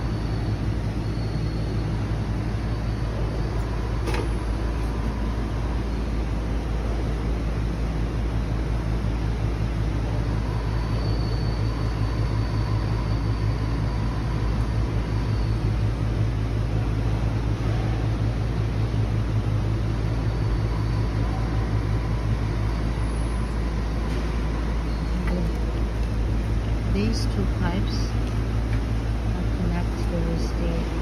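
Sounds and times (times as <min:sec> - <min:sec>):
factory machinery hum: 0:00.0 - 0:31.0.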